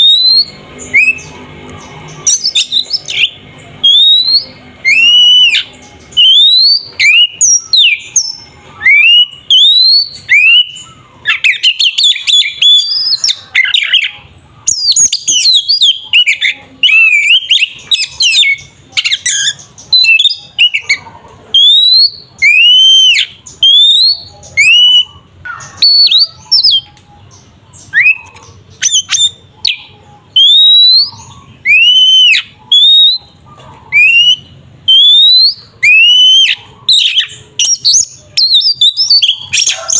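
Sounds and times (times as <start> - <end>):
bird whistled song: 0.0 - 1.4, 2.0 - 39.9
bird rapid chattering: 0.0 - 39.9.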